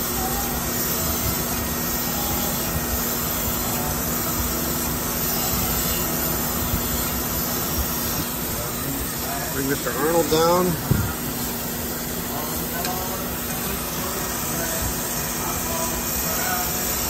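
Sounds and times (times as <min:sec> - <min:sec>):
flowing coolant: 0:00.0 - 0:17.0
grinding wheel grinding metal: 0:00.0 - 0:17.0.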